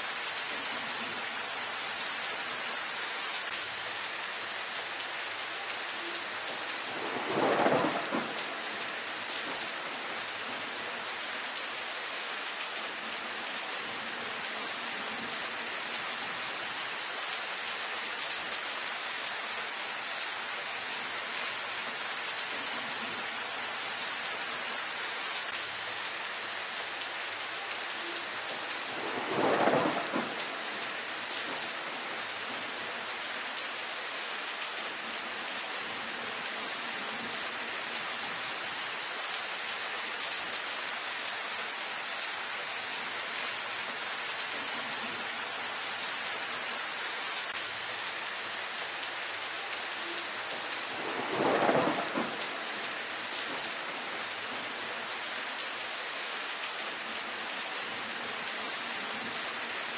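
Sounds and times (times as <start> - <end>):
rain on foliage: 0.0 - 59.9.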